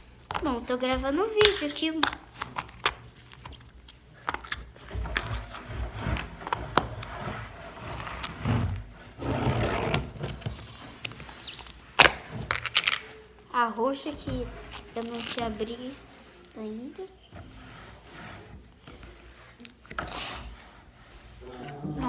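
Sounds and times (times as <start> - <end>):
slime squelching: 0.0 - 22.0.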